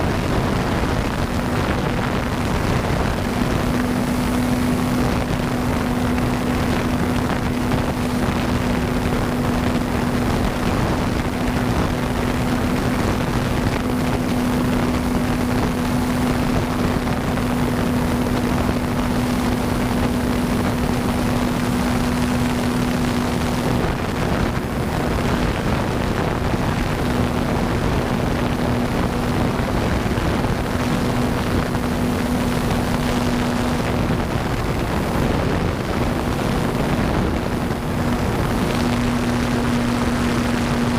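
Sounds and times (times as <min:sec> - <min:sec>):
rushing wind: 0:00.0 - 0:40.9
model plane electric motor hum: 0:01.1 - 0:40.9.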